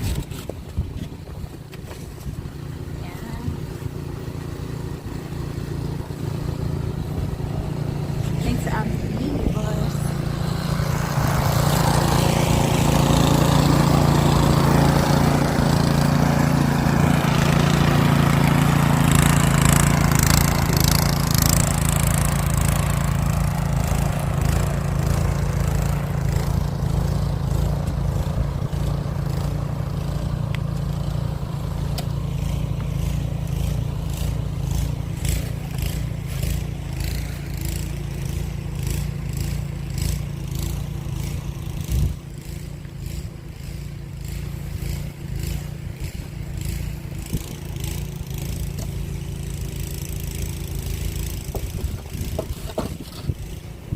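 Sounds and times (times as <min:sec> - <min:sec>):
snowblower engine running: 0:00.0 - 0:53.9.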